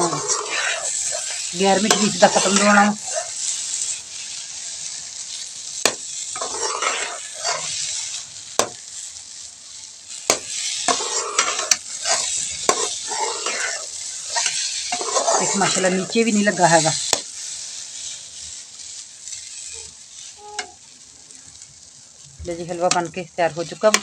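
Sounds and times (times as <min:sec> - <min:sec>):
metal spoon scraping a pan: 0:00.0 - 0:09.2, 0:10.2 - 0:20.8, 0:22.7 - 0:24.0
frying hiss: 0:00.0 - 0:24.0.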